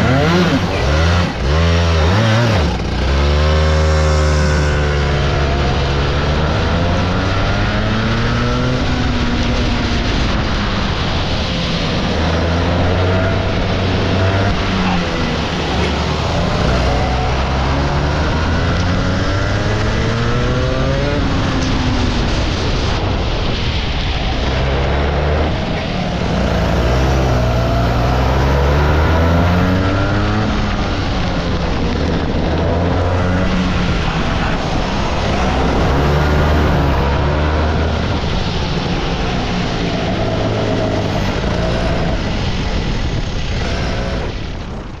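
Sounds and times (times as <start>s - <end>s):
kart engine revving: 0.0s - 45.0s.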